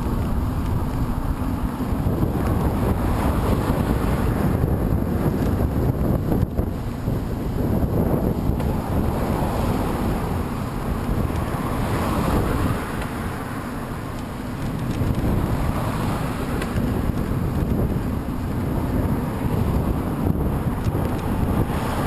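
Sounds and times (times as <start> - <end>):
wind buffeting the microphone: 0.0 - 22.0.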